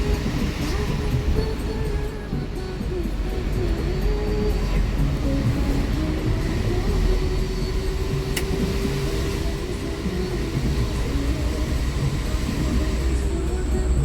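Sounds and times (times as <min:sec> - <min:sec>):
diesel engine rumble inside bus: 0:00.0 - 0:14.0.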